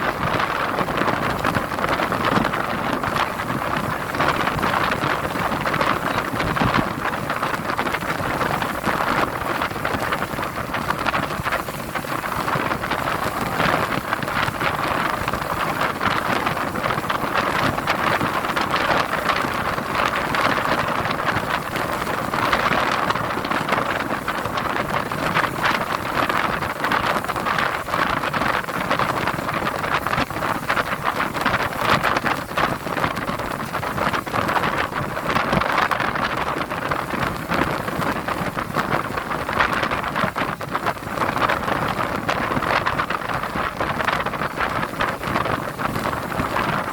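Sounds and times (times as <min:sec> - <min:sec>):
waves and surf rushing: 0:00.0 - 0:46.9
wind on microphone: 0:00.0 - 0:46.9.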